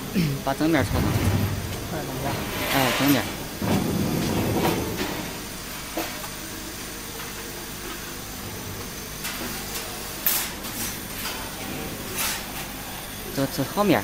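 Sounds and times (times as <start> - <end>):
steady mechanical noise: 0.0 - 14.0.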